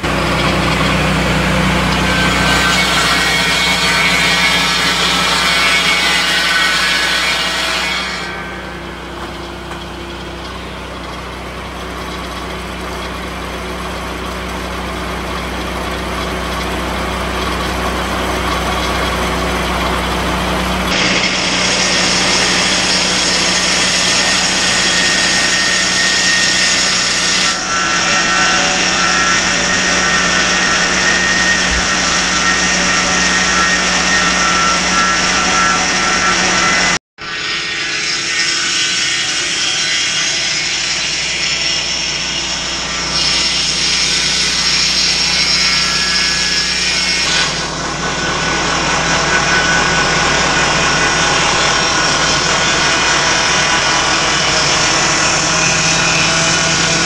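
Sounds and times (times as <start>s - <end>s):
sawmill blade cutting log: 0.0s - 57.0s
sawmill engine running: 0.0s - 57.0s.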